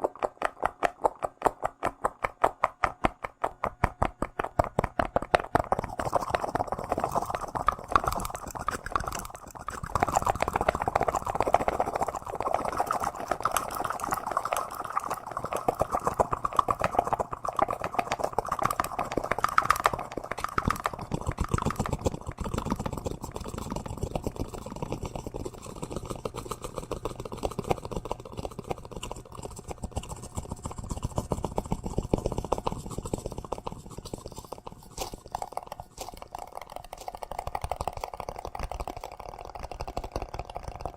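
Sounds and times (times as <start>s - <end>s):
rapid small clicks and crackles: 0.0s - 40.9s.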